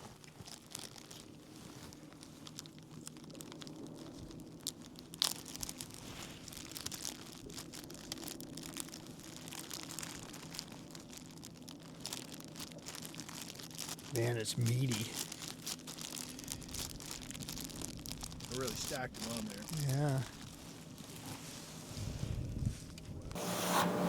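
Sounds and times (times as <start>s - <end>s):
crinkling and tearing handling sounds: 0.0s - 23.4s.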